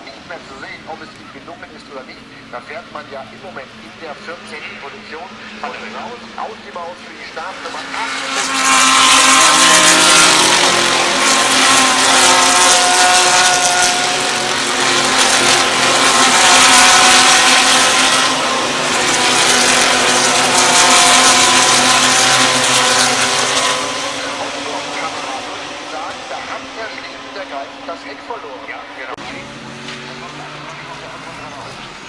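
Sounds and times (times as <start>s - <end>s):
race car engines passing: 0.0s - 32.0s.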